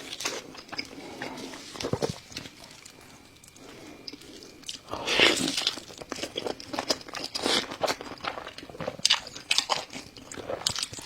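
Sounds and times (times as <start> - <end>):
chewing: 0.0 - 11.0
crunching crisp food: 0.0 - 11.0.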